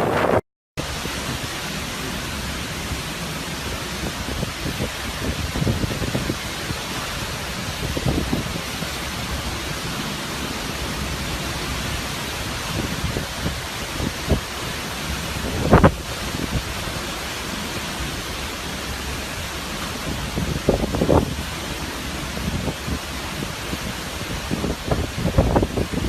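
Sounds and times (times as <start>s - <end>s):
heavy rain and wind: 0.0s - 26.0s
low wind gusts: 0.0s - 26.0s.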